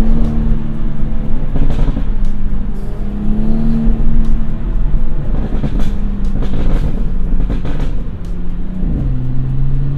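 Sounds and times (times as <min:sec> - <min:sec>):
exhaust pops and crackles: 0:00.0 - 0:02.7, 0:03.4 - 0:09.9
car engine running: 0:00.0 - 0:09.9.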